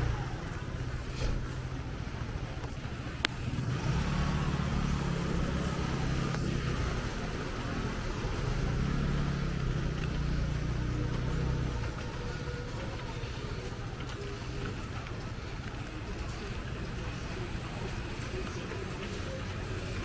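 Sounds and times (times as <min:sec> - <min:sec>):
rain falling: 0:00.0 - 0:20.0
vehicle engine running: 0:00.0 - 0:20.0.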